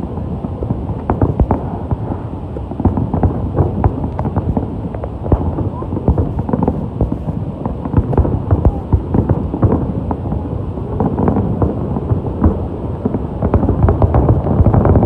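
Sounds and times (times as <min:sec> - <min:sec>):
fireworks booming and cracking: 0:00.0 - 0:15.0.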